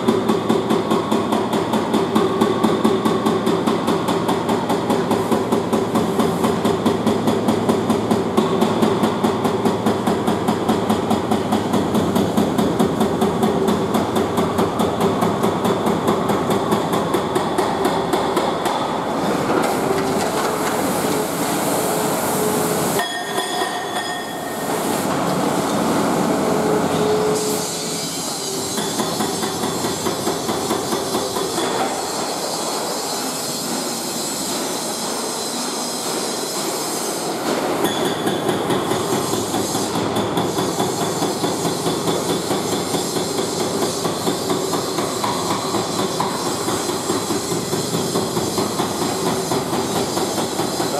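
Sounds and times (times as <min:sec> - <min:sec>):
hydraulic breaker hammering brick: 0:00.0 - 0:33.0, 0:33.6 - 0:50.9.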